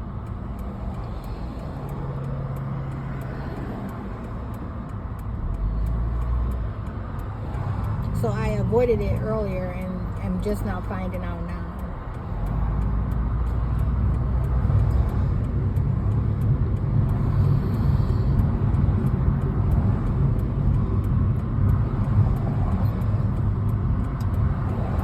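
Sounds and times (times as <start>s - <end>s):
car engine from inside cabin: 0.0s - 25.0s.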